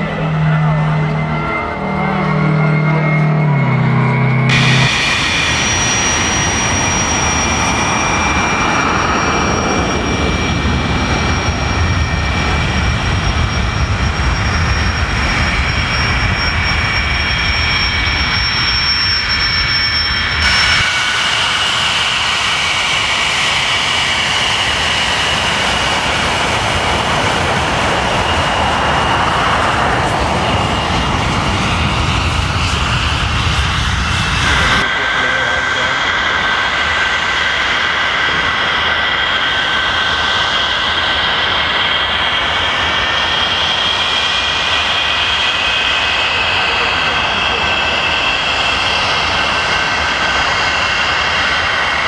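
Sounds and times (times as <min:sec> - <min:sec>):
high engine whine: 0:00.0 - 0:52.0
jet engines running: 0:00.0 - 0:52.0.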